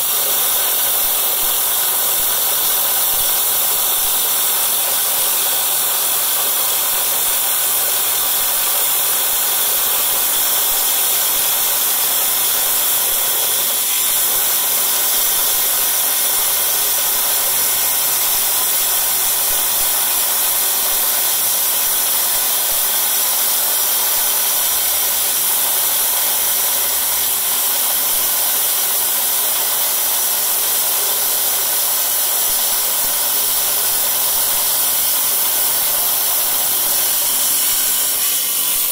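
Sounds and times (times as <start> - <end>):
stone saw cutting stone: 0.0 - 38.9.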